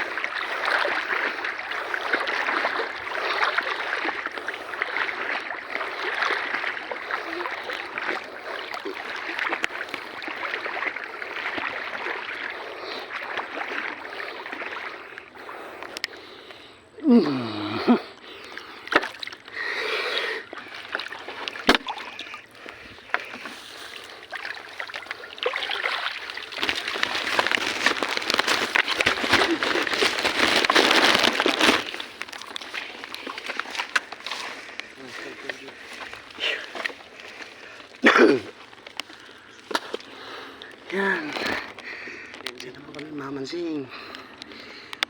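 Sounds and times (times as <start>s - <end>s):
water sloshing and splashing: 0.0s - 45.0s.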